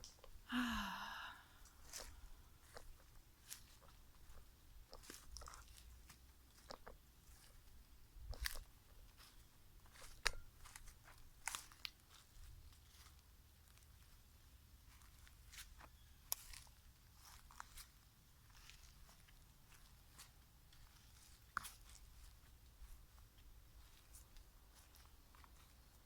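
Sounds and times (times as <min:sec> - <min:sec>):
footsteps on forest floor: 0:00.5 - 0:13.8, 0:14.8 - 0:26.0.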